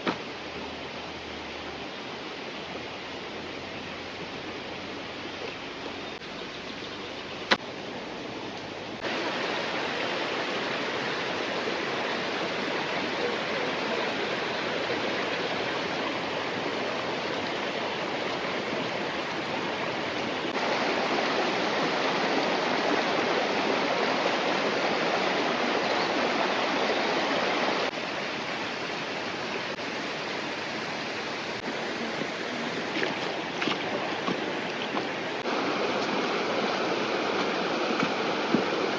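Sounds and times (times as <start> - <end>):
rushing river: 0.0 - 38.9.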